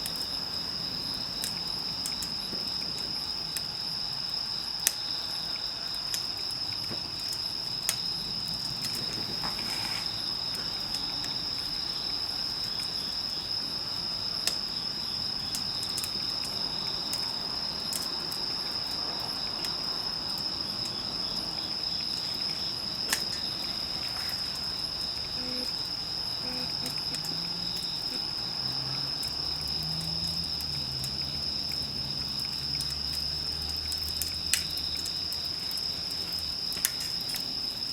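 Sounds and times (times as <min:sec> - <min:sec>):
bonfire popping: 0:00.0 - 0:37.9
crickets trilling: 0:00.0 - 0:37.9.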